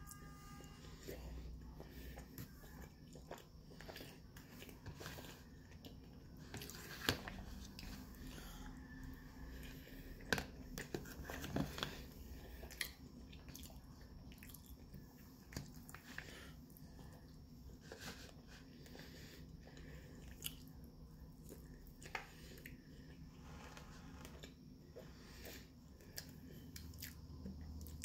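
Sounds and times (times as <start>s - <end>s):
faint low hum: 0.0s - 28.0s
person chewing food: 0.0s - 28.0s.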